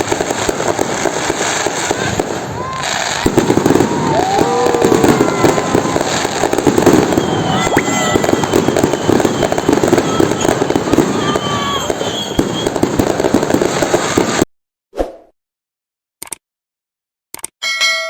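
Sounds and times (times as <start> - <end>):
fireworks crackling and popping: 0.0 - 14.5.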